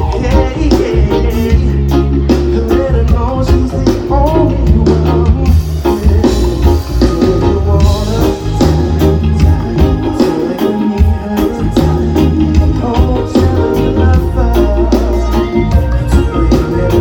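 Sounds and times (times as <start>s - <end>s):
live reggae-pop band playing: 0.0s - 17.0s
man singing: 0.0s - 17.0s.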